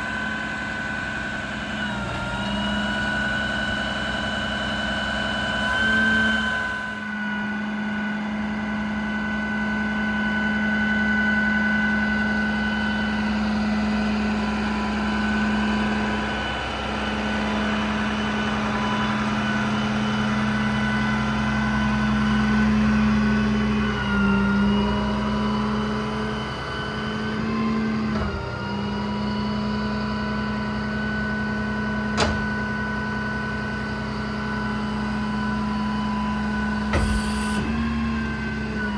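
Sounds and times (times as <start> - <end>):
diesel and hydraulic whine: 0.0 - 38.9.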